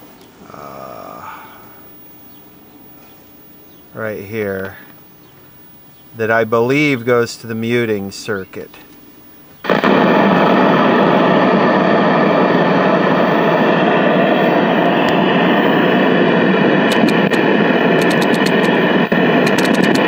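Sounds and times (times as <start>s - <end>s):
tv static hiss: 1.6s - 20.0s.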